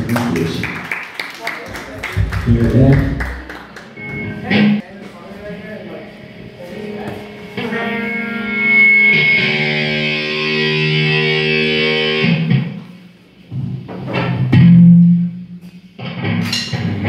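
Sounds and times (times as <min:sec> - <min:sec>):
electric guitar chords: 0:02.2 - 0:04.8, 0:05.8 - 0:17.0.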